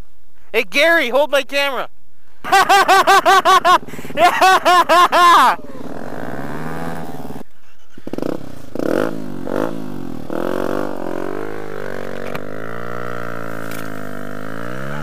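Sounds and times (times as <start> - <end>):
dirt bike engine revving: 2.5 - 15.0.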